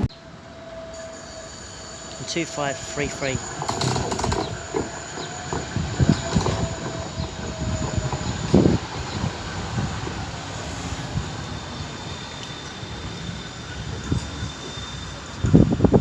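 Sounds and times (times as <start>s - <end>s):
tram rumbling on rails: 0.0s - 16.0s.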